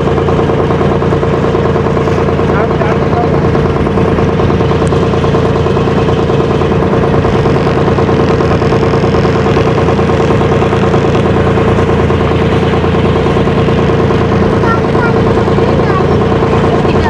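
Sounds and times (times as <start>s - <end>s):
ferry engine drone: 0.0s - 17.0s.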